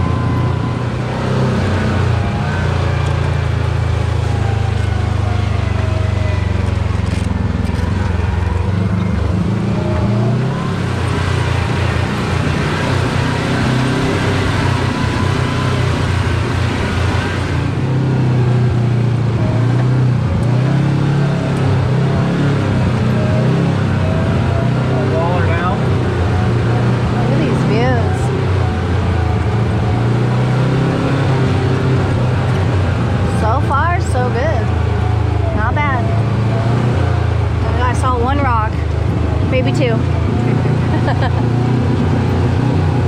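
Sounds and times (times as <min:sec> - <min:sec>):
utility vehicle engine droning: 0:00.0 - 0:43.0.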